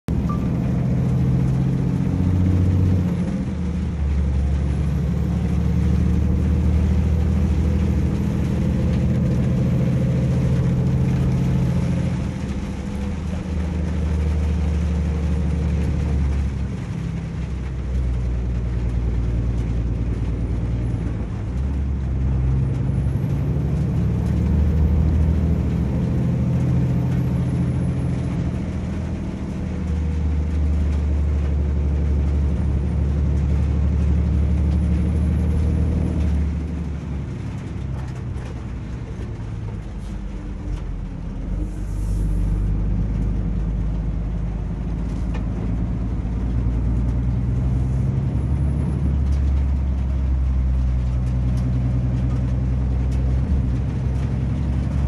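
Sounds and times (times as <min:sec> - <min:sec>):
truck diesel engine droning: 0:00.1 - 0:55.0.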